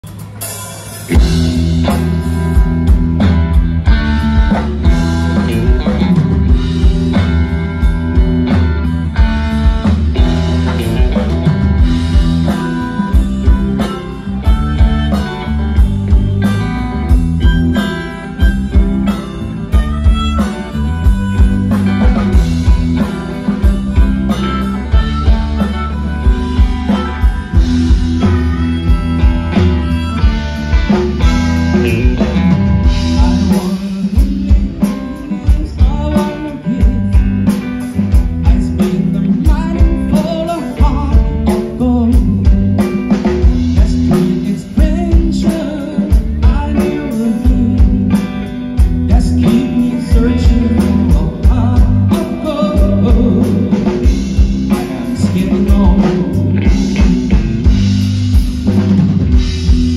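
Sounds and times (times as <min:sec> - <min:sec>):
bass guitar: 0:00.0 - 0:59.9
drum kit beat: 0:00.0 - 0:59.9
electric guitar: 0:00.0 - 0:59.9
harmonica: 0:01.1 - 0:59.9.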